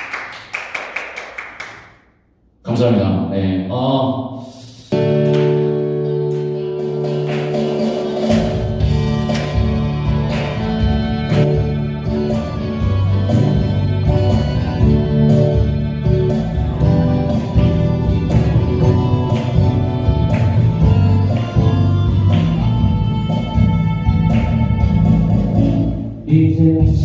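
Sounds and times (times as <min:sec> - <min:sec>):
instrumental band music: 0:05.0 - 0:26.9.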